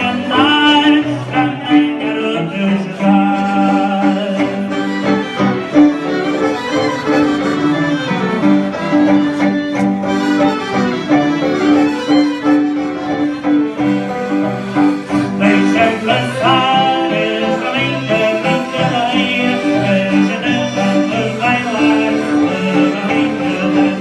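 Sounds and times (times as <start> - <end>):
live band playing dance music: 0.0 - 24.0.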